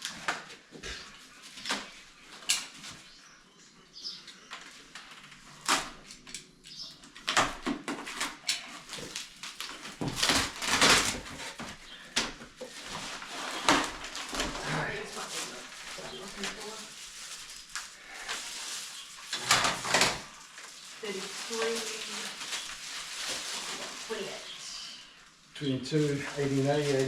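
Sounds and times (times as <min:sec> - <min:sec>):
handling parts and packaging: 0:00.0 - 0:27.0.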